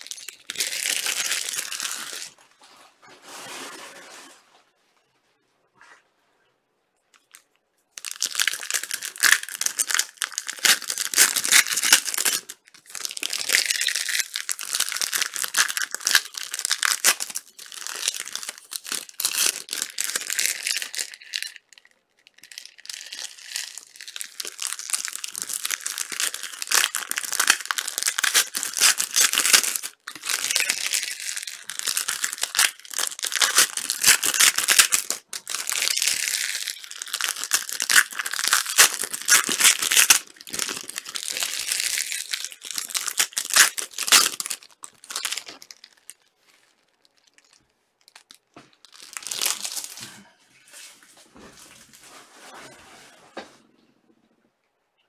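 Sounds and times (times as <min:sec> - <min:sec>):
plastic wrapping crinkling: 0:00.0 - 0:04.3, 0:07.2 - 0:52.7.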